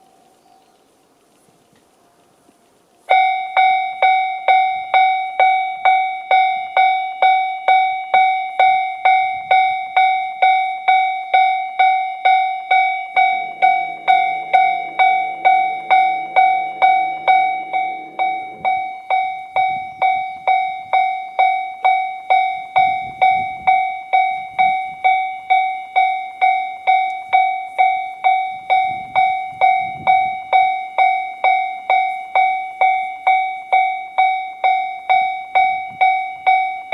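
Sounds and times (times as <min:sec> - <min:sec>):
level crossing warning bell: 0:03.1 - 0:36.9.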